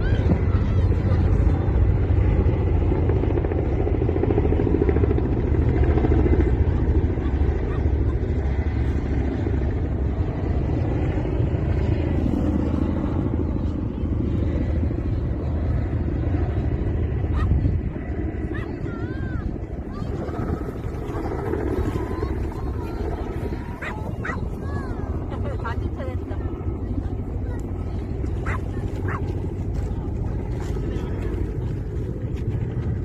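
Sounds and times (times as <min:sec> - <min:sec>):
helicopter rotor beating: 0:00.0 - 0:33.0.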